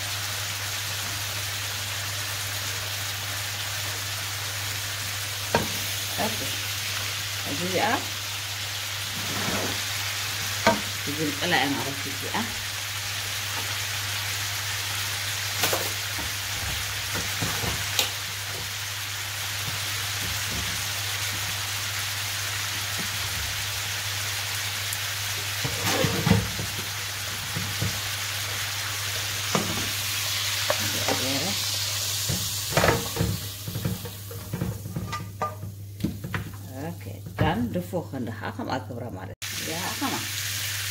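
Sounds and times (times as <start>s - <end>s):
meat sizzling in a frying pan: 0.0s - 37.6s, 39.4s - 40.9s.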